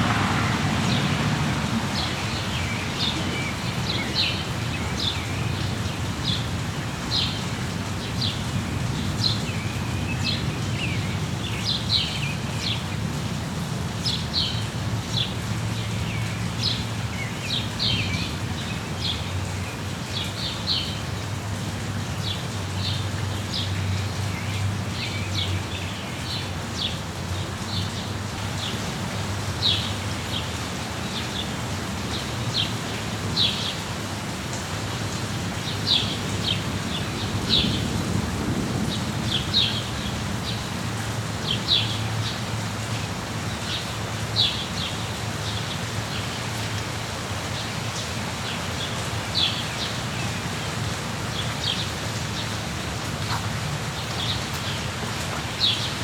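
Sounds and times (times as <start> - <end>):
songbirds chirping: 0.0 - 13.4, 14.0 - 37.9, 38.8 - 56.0
steady rain: 0.0 - 56.0.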